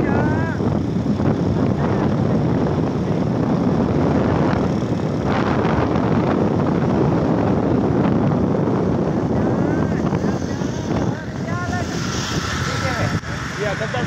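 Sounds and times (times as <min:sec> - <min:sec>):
motorcycle riding at speed: 0:00.0 - 0:14.0
wind rushing over microphone: 0:00.0 - 0:14.0.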